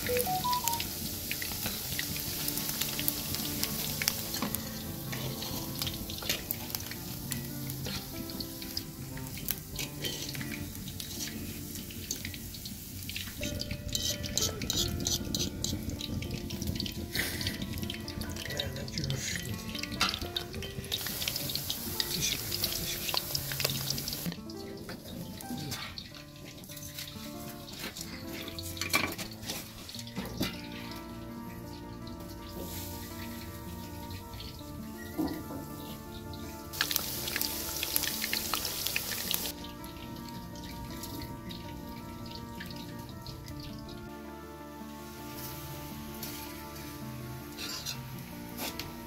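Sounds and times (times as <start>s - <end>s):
potatoes deep-frying in oil: 0.0s - 49.0s
soft background music: 0.0s - 49.0s.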